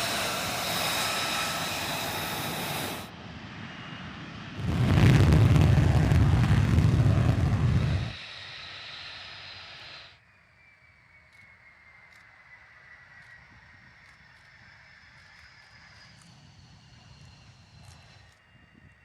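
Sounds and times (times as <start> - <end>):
jet engine roar: 0.0 - 19.0
jet engine whine: 0.0 - 19.0.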